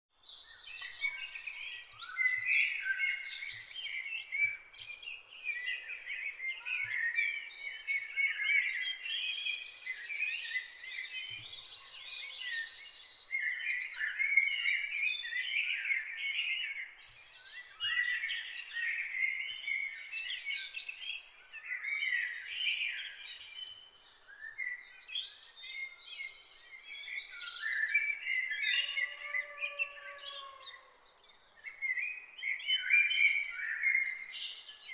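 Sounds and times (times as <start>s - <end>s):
songbirds singing and chirping: 0.1s - 34.9s.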